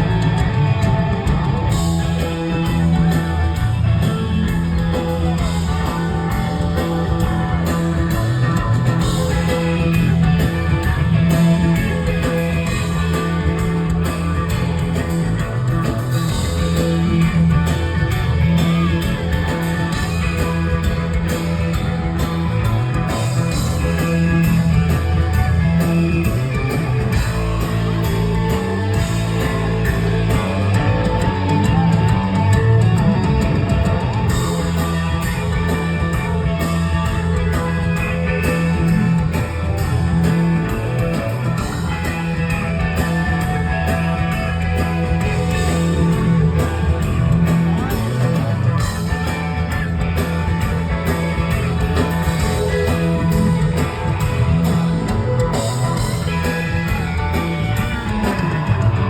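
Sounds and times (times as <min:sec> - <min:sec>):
electric guitar: 0:00.0 - 0:59.0
heavy bass line: 0:00.0 - 0:59.0.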